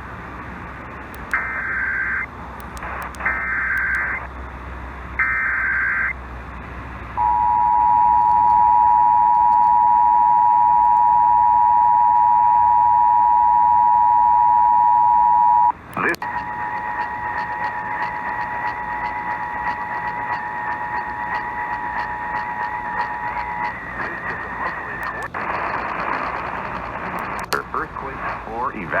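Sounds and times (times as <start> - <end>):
radio hiss and hum: 0.6 - 4.6, 7.2 - 29.0.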